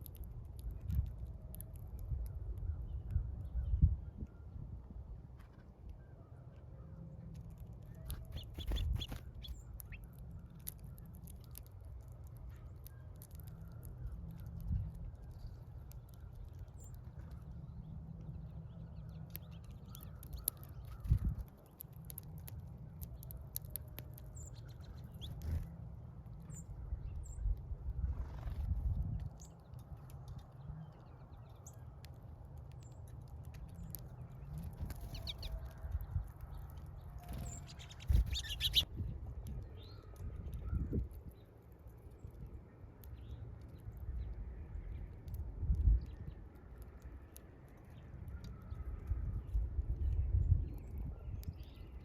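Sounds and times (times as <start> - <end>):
small birds chirping: 5.4 - 52.0
steady low rumble: 6.6 - 52.0.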